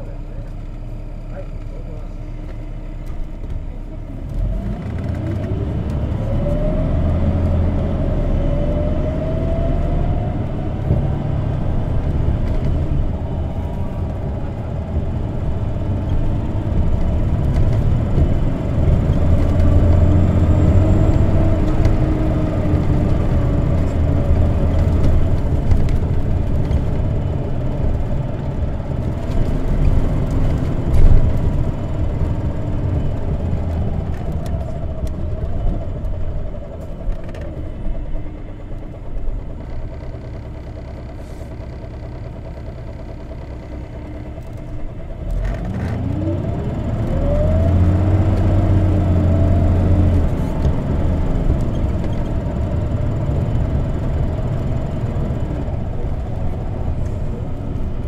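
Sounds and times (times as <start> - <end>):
bus drivetrain whine: 0.0 - 58.0
low engine rumble: 0.0 - 58.0.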